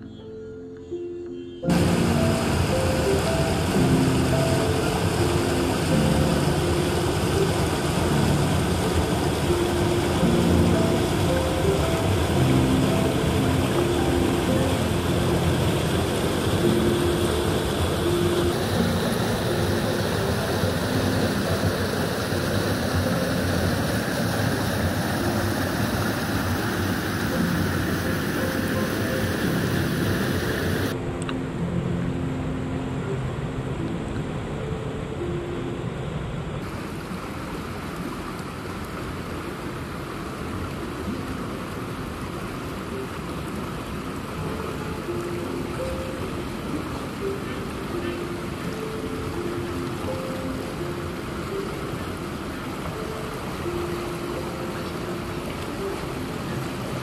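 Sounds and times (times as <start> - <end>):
river water rushing over rocks: 1.6 - 31.1, 36.6 - 57.0.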